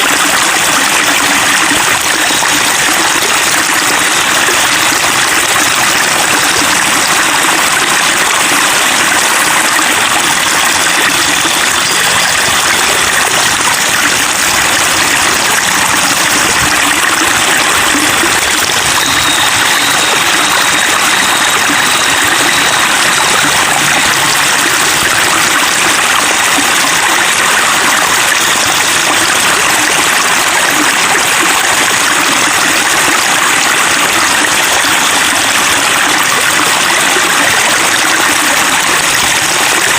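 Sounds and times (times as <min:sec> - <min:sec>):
water babbling and splashing: 0:00.0 - 0:39.9.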